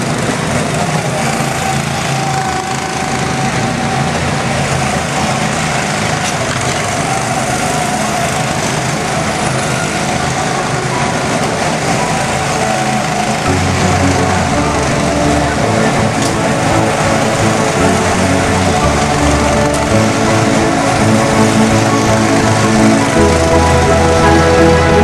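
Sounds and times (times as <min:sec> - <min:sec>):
go-kart engines running: 0:00.0 - 0:25.0.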